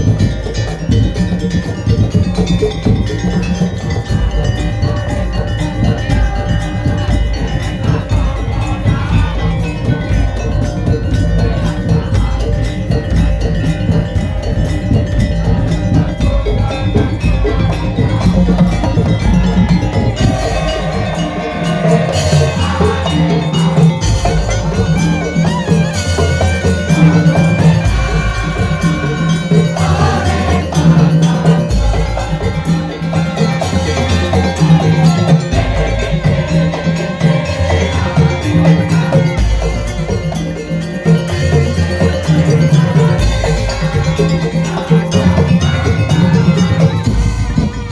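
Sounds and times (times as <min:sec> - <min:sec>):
percussion ensemble playing: 0:00.0 - 0:47.9.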